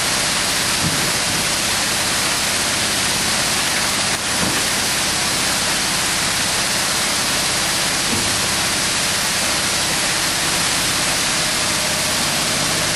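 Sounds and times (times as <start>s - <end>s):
low machine hum: 0.0s - 12.9s.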